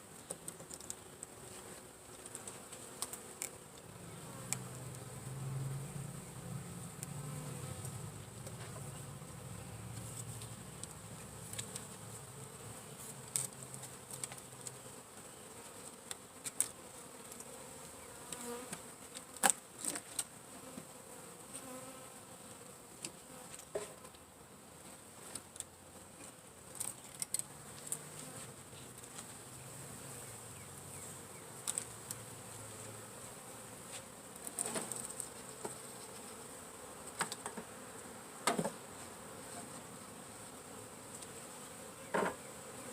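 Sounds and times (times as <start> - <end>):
honeybees buzzing: 0.0 - 24.4, 26.0 - 42.9.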